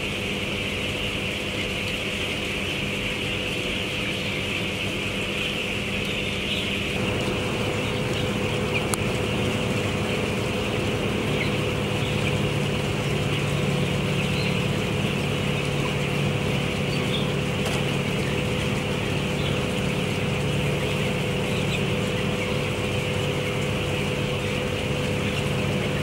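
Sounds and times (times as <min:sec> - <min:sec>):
chicks peeping: 0:00.0 - 0:26.0
ventilation fans humming: 0:00.0 - 0:26.0.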